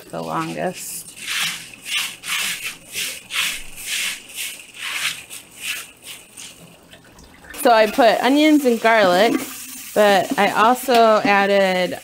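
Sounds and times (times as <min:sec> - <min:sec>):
running tap water: 0:00.0 - 0:12.0.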